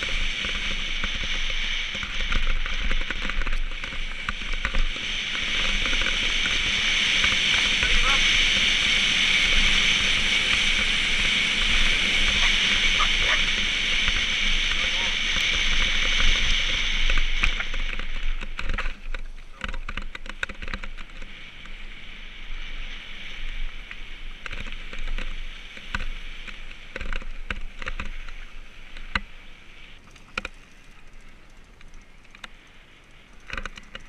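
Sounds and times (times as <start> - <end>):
bike clicks and rattles: 0.0 - 34.0
bike tyres on gravel: 0.0 - 34.0.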